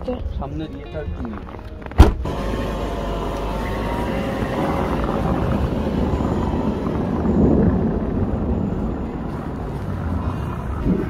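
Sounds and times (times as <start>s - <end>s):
car engine running under load: 2.1s - 11.0s.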